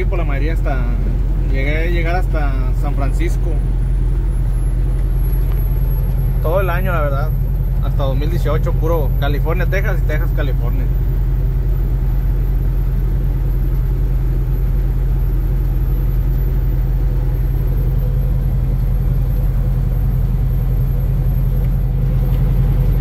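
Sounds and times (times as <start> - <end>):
road noise: 0.0 - 23.0
truck diesel engine drone: 0.0 - 23.0.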